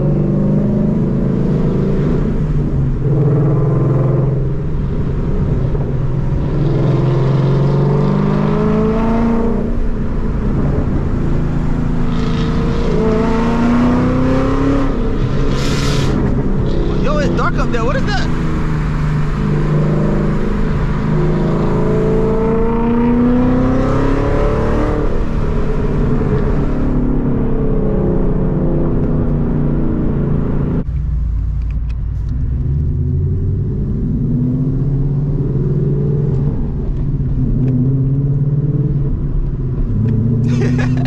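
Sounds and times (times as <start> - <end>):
car engine and exhaust accelerating: 0.0 - 41.0.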